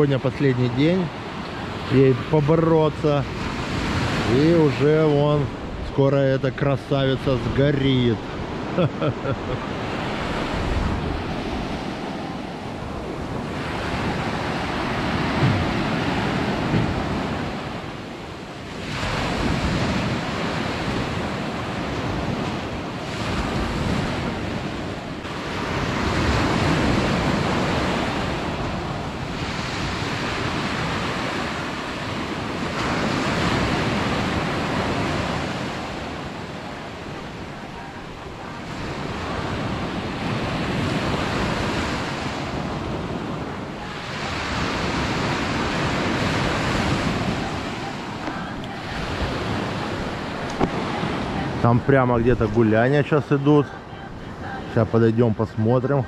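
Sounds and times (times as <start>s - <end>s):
surf breaking on beach: 0.0s - 56.0s
wind buffeting microphone: 0.8s - 53.1s.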